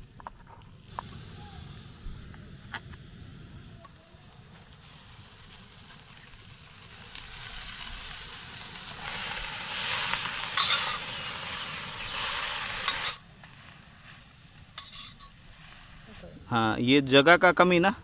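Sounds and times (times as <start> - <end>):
greens sizzling in oil: 0.0 - 17.6.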